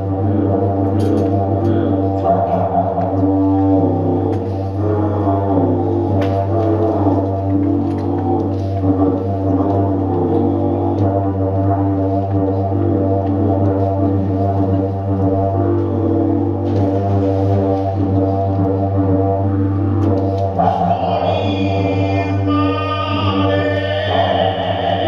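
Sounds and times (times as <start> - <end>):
didgeridoo drone: 0.0 - 25.0.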